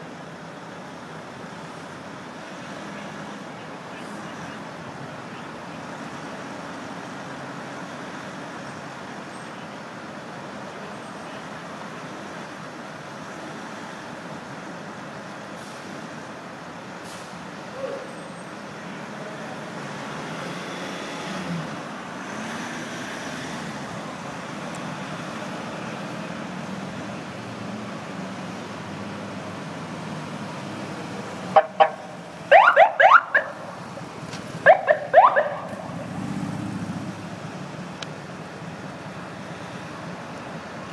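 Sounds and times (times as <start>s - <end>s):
vehicle engines and tyres humming: 0.0s - 40.9s.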